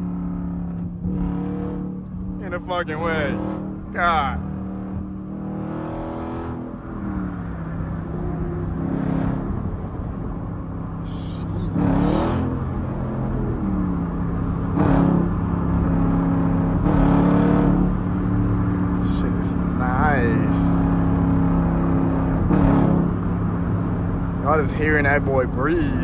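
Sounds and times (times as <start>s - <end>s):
car engine from inside cabin: 0.0s - 26.0s.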